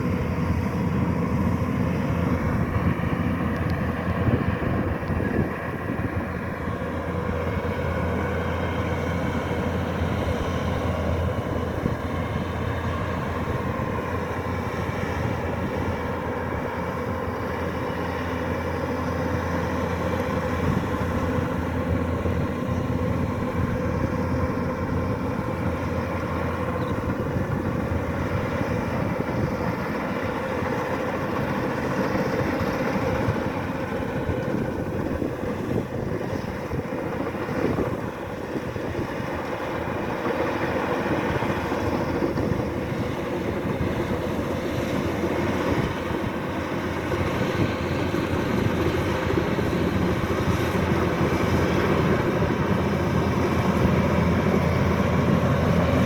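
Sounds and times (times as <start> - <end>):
combine harvester diesel engine drone: 0.0 - 56.0.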